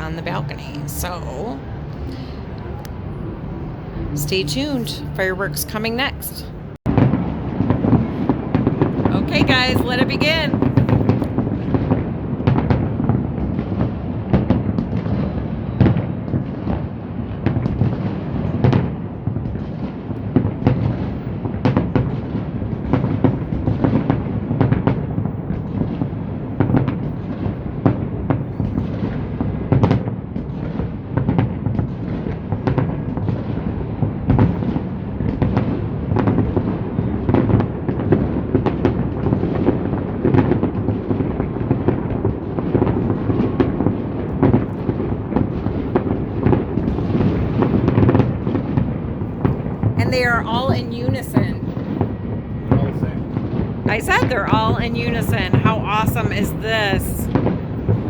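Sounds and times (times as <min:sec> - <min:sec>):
fireworks booming and crackling: 0:00.0 - 0:58.0.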